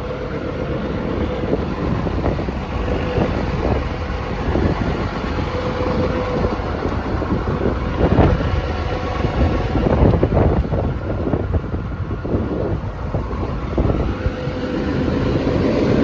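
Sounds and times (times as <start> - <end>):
low rumble: 0.0 - 16.0
wind buffeting microphone: 0.0 - 16.0.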